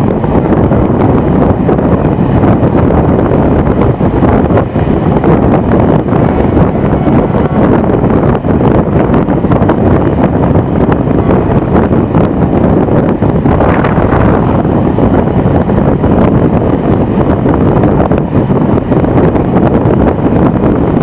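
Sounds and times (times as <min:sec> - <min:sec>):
train running noise: 0:00.0 - 0:21.0
wind buffeting microphone: 0:00.0 - 0:21.0.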